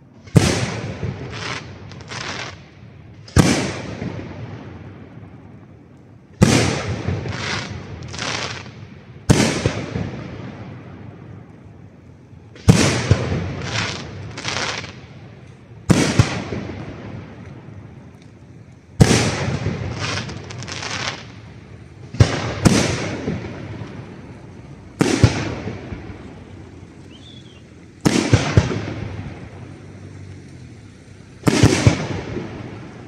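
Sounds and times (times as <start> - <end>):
smaller firework bangs: 0.0 - 30.7, 31.3 - 33.0
rolling echo: 0.0 - 33.0
firework shells booming: 0.2 - 2.6, 3.2 - 5.5, 6.3 - 11.4, 12.5 - 18.0, 19.0 - 29.7, 31.4 - 33.0.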